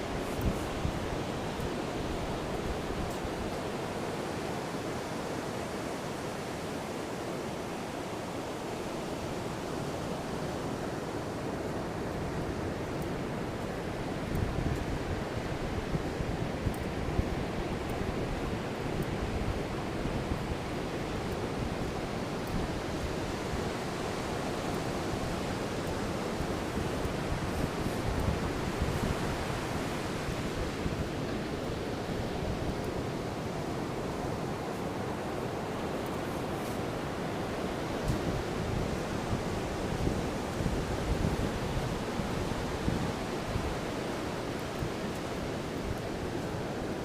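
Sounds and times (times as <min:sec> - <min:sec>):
waves breaking on beach: 0:00.0 - 0:47.0.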